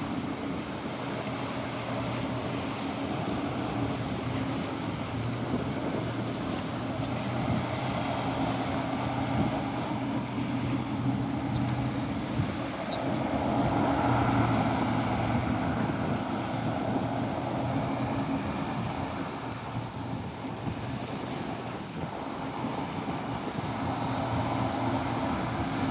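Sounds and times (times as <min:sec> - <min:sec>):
motorboat engine droning: 0:00.0 - 0:25.9
waves washing: 0:00.0 - 0:25.9
wind noise on microphone: 0:00.0 - 0:25.9.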